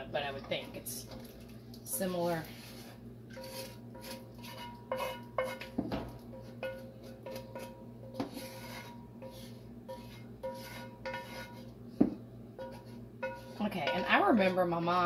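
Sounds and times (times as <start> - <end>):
utensil scraping metal pot: 1.9 - 11.8, 12.6 - 15.0.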